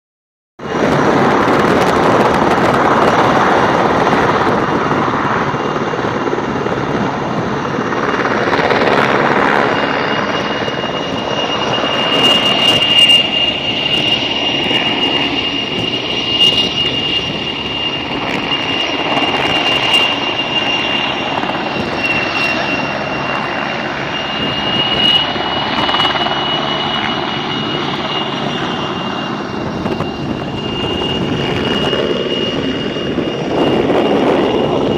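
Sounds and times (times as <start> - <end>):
helicopter rotor and engine: 0.6 - 34.9
high steady whine: 0.6 - 34.9.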